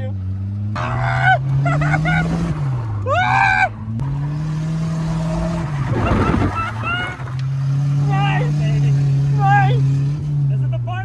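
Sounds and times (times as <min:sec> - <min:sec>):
truck engine revving hard: 0:00.0 - 0:10.8
tyres squealing: 0:00.8 - 0:10.6.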